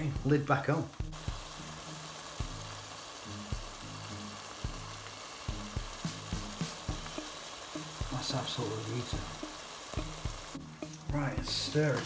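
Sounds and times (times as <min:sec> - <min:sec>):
background music with a beat: 0:00.0 - 0:12.0
food sizzling in a pan: 0:00.0 - 0:12.0.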